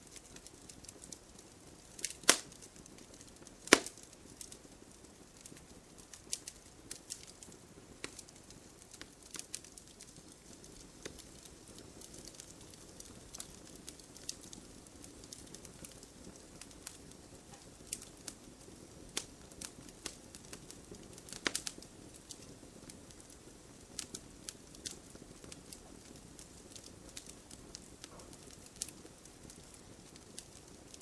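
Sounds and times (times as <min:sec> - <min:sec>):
campfire crackling and popping: 0:00.0 - 0:31.0
low rumble of flames: 0:00.0 - 0:31.0.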